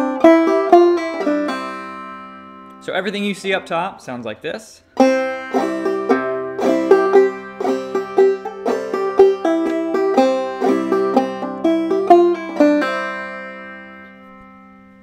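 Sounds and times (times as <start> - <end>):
banjo played clawhammer style: 0.0 - 3.9, 5.0 - 15.0.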